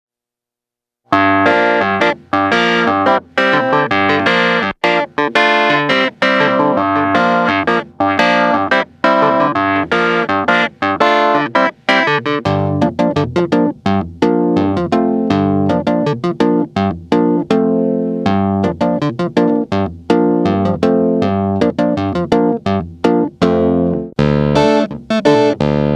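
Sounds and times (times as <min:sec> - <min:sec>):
clavinet chord stabs: 0:01.1 - 0:25.9.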